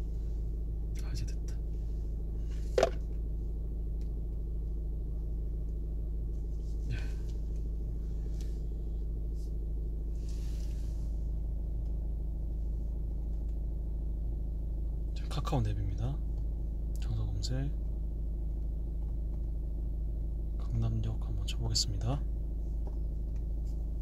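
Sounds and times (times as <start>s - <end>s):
low car cabin hum: 0.0s - 24.0s.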